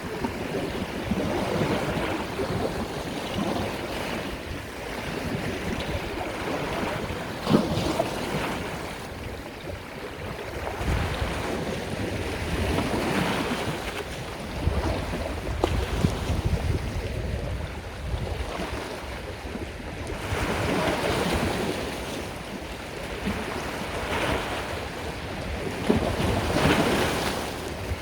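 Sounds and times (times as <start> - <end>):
sea waves washing: 0.0 - 28.0
wind rumbling on microphone: 0.0 - 28.0.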